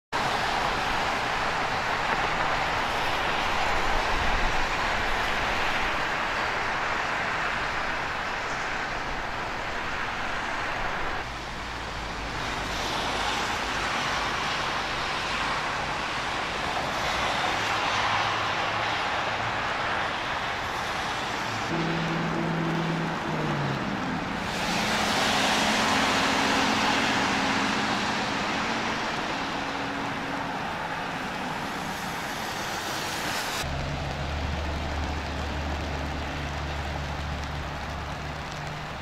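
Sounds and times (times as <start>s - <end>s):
traffic passing: 0.1s - 39.0s
car tyres on wet road: 0.2s - 39.0s
heavy rainfall close: 0.2s - 39.0s
rain hiss: 0.2s - 39.0s.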